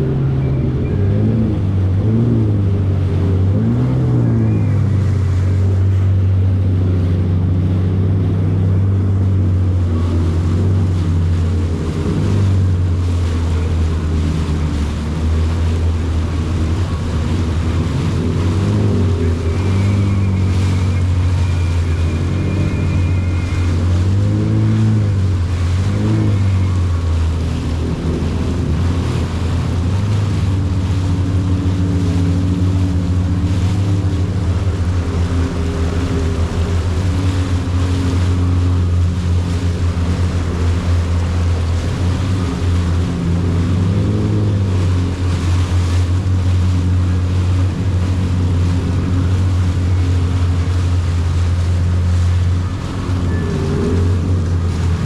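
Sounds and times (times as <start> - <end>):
jet ski engine running: 0.0 - 55.0
water rushing: 0.0 - 55.0
wind buffeting microphone: 0.0 - 55.0.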